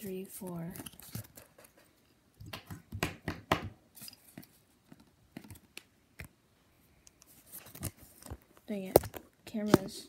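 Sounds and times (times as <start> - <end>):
trading cards flicking and rustling: 0.0 - 6.4, 7.2 - 10.0.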